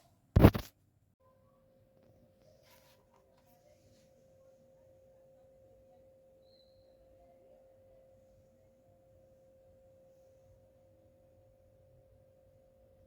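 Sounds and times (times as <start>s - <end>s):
faint steady hum: 1.2s - 13.0s.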